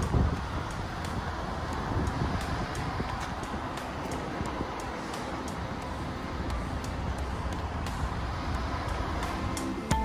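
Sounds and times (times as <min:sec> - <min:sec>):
tractor engine rumbling: 0:00.0 - 0:10.0.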